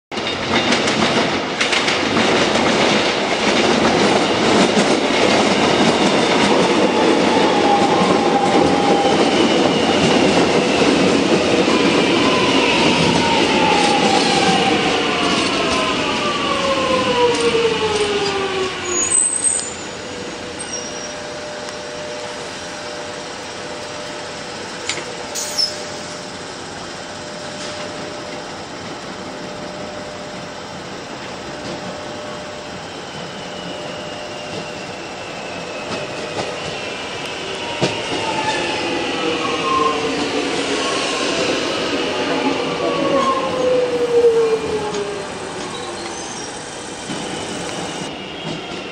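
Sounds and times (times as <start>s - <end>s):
train hum: 0.1s - 48.9s
electric train whine: 0.2s - 48.9s.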